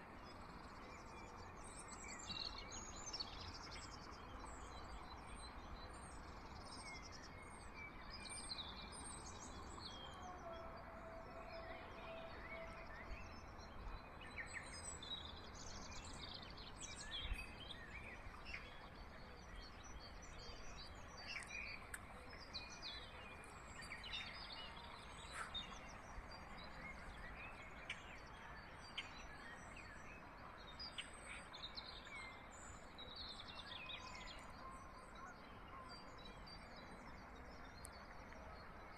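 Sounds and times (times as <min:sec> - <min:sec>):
low outdoor background noise: 0:00.0 - 0:38.9.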